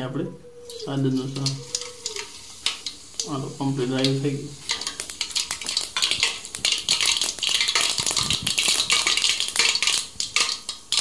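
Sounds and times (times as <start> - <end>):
oil sizzling: 0.6 - 11.0
seeds popping in hot oil: 0.7 - 11.0.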